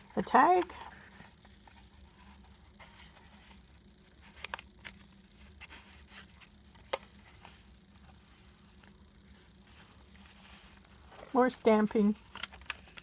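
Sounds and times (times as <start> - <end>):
paper rustling and sliding: 0.6 - 13.0.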